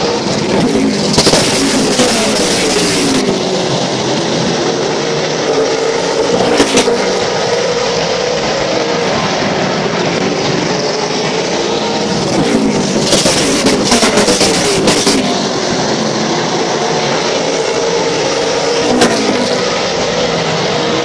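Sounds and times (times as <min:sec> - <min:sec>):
sharp engine crackles: 0:00.0 - 0:21.0
stock car engines racing: 0:00.0 - 0:21.0.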